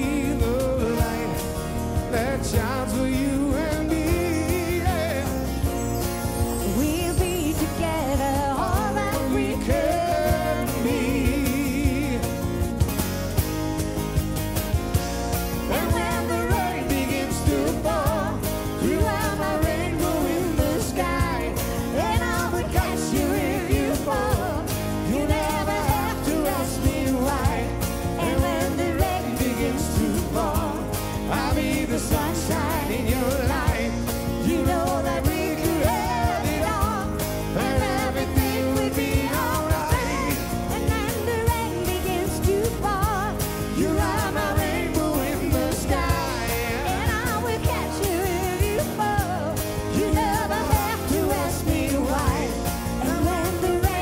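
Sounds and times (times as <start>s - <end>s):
bass: 0.0s - 54.0s
percussion beat: 0.0s - 54.0s
strummed acoustic guitars: 0.0s - 54.0s
woman singing: 6.5s - 12.8s, 15.7s - 54.0s.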